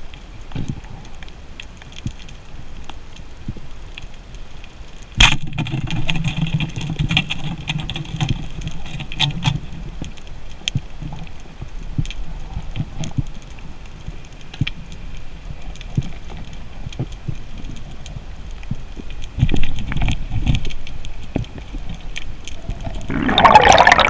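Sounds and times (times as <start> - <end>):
scattered crackling clicks: 0.0 - 24.0.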